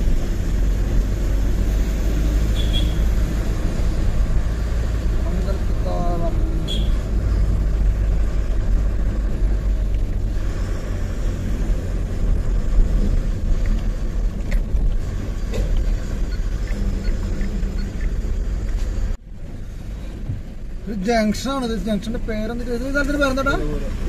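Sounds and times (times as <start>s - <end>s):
truck diesel engine and road noise: 0.0s - 24.0s.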